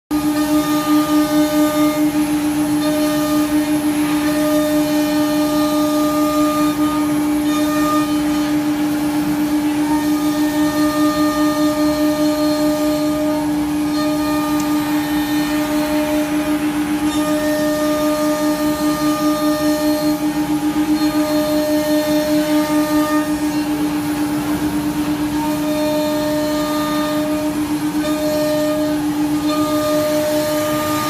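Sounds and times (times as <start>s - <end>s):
router spindle whine cutting wood: 0.2s - 31.0s.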